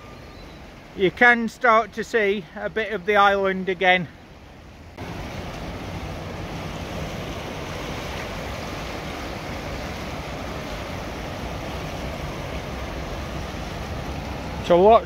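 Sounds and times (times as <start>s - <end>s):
river rushing over a weir: 0.0s - 15.0s.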